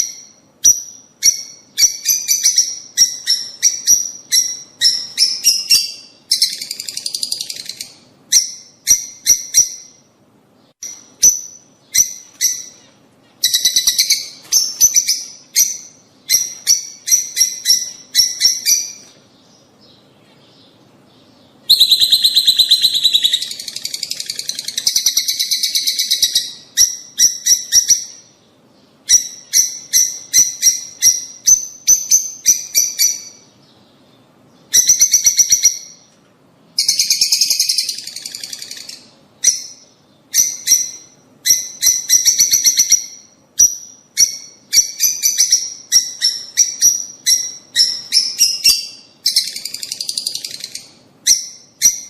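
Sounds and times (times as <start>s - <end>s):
lovebirds chirping and chattering: 0.0s - 36.2s, 36.8s - 52.0s.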